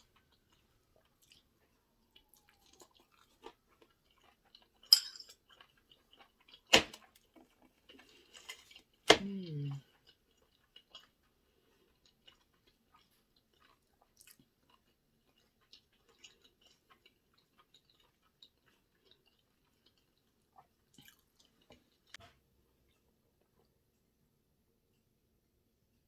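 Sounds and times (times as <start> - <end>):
person chewing food: 0.0 - 23.8.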